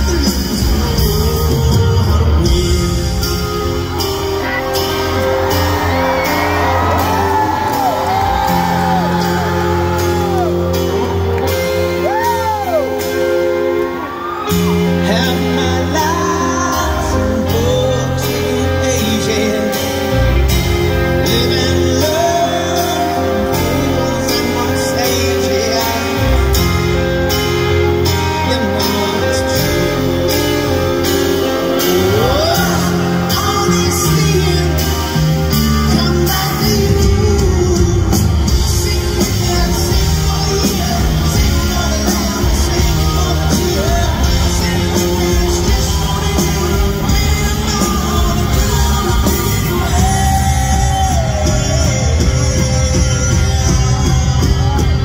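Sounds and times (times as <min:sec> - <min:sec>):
electric guitars: 0:00.0 - 0:55.0
live rock band playing: 0:00.0 - 0:55.0
person singing: 0:00.0 - 0:55.0.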